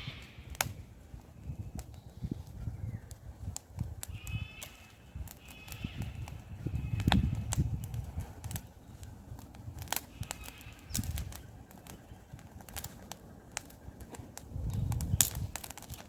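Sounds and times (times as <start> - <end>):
burning wood popping: 0.0 - 16.0
campfire crackling: 0.0 - 16.0.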